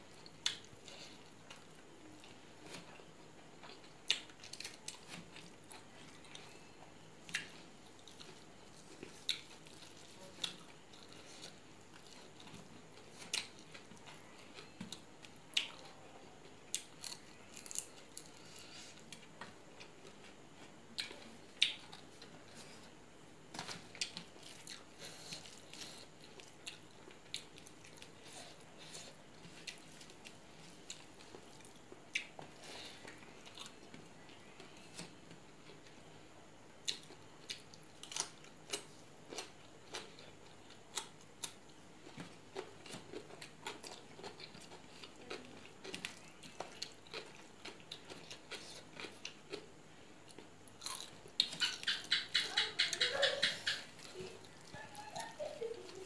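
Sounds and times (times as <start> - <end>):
person chewing rice: 0.0 - 23.0, 23.6 - 36.0, 36.8 - 52.2.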